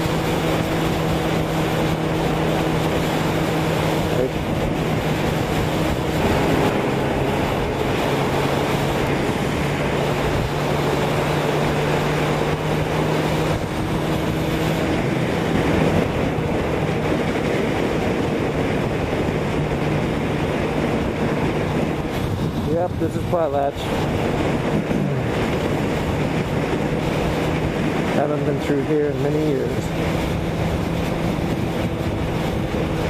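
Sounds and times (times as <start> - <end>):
motorcycle engine cruising: 0.0 - 33.0
wind noise on microphone: 0.0 - 33.0.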